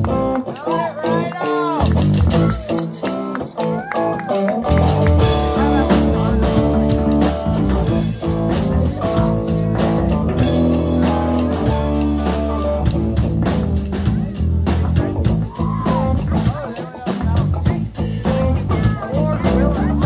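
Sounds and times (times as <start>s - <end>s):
bass notes: 0.0s - 0.8s, 1.8s - 3.3s, 4.5s - 20.0s
guitar: 0.0s - 20.0s
live band playing: 0.0s - 20.0s
steady beat: 0.0s - 20.0s.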